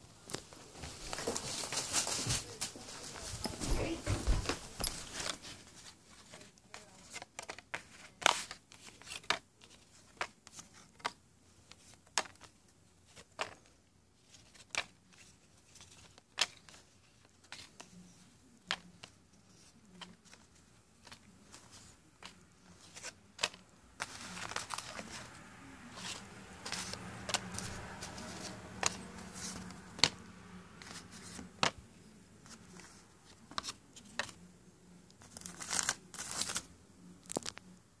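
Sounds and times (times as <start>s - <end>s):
cards rustling and sliding: 0.3s - 37.7s.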